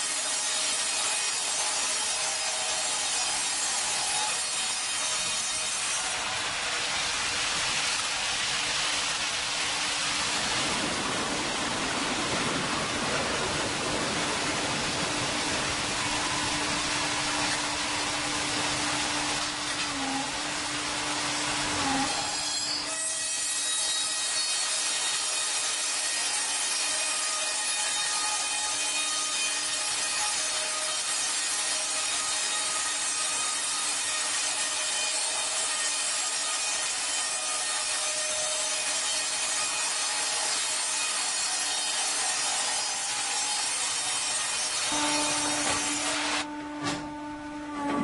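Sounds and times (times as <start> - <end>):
band saw blade cutting log: 0.0 - 9.5, 15.7 - 48.0.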